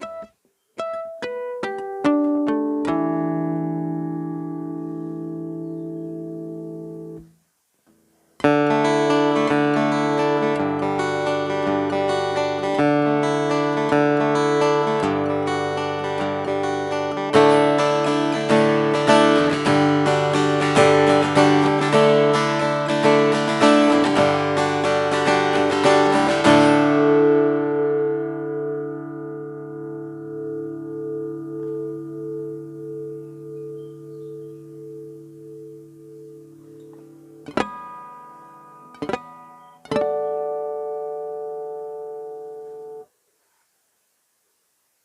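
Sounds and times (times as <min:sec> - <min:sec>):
acoustic guitar strumming: 0:00.0 - 0:43.2.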